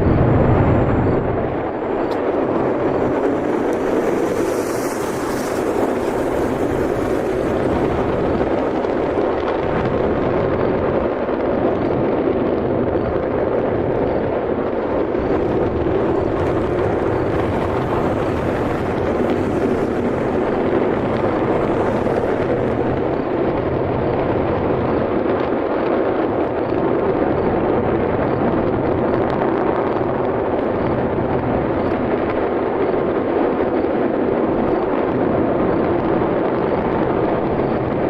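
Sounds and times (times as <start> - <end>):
rocket engines rumbling: 0.0 - 38.0.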